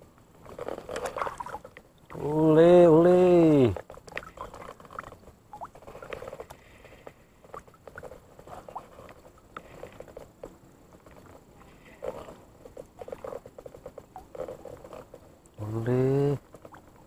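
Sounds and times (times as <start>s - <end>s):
small waves lapping: 0.2s - 17.0s.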